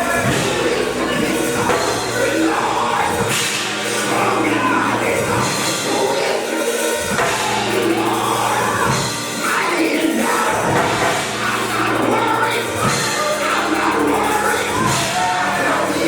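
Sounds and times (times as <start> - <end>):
church singing with accompaniment: 0.0 - 16.0.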